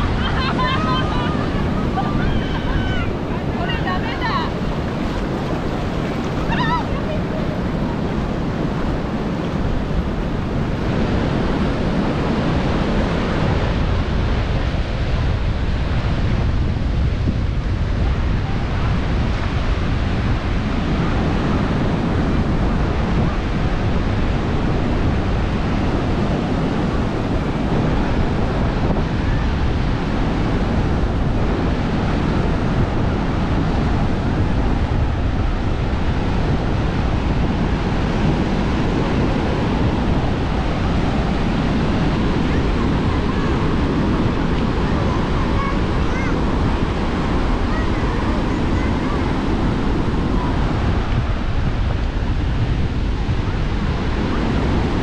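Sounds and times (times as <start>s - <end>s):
sea surf washing onto beach: 0.0s - 55.0s
wind buffeting microphone: 0.0s - 55.0s.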